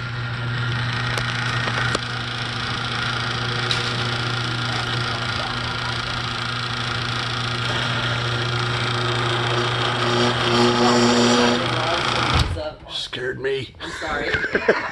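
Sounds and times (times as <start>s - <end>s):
garage door opener motor: 0.0s - 12.8s.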